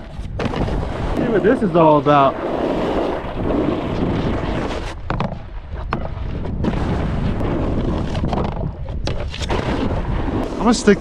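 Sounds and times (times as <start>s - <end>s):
snowboard scraping over snow: 0.0s - 11.0s
wind buffeting microphone: 0.0s - 11.0s.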